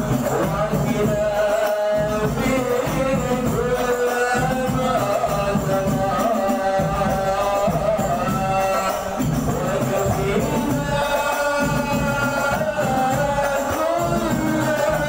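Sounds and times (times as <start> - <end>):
hand percussion: 0.0 - 15.0
men singing devotional song: 0.0 - 15.0.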